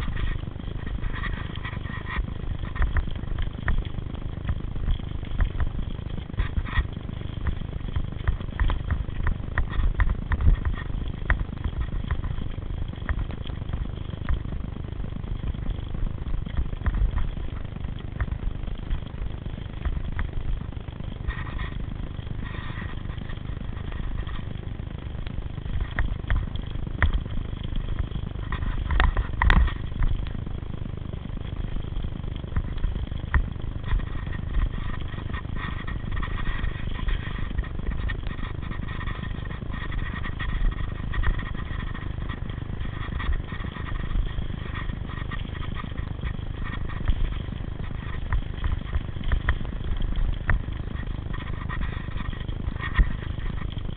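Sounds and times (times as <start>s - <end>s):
bike rattles and clicks: 0.0s - 53.9s
tyres on dirt trail: 0.0s - 53.9s
wind on microphone: 0.0s - 53.9s.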